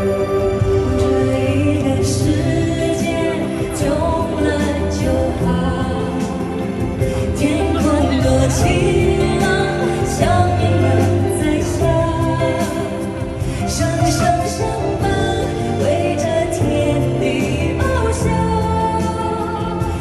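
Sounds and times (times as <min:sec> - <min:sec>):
live pop ballad with singing: 0:00.0 - 0:20.0.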